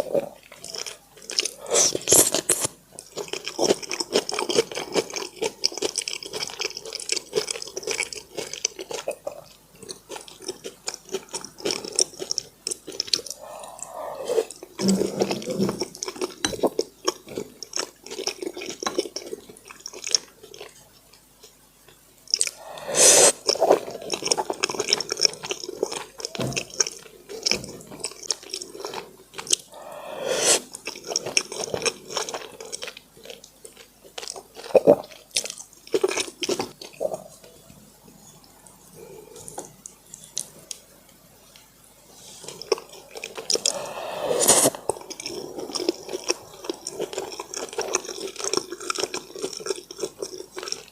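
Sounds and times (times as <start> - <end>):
person chewing wet mouth sounds: 0.0 - 21.6, 22.3 - 37.5, 42.3 - 50.9.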